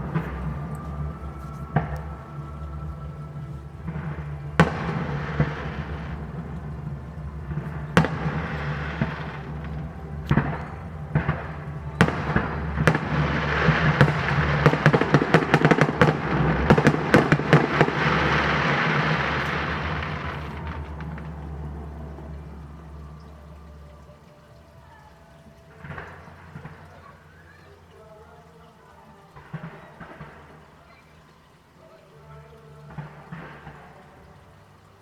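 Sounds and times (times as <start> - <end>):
fireworks bangs: 0.0 - 27.8, 29.4 - 31.0, 32.2 - 34.6
fireworks crackling: 0.0 - 35.0.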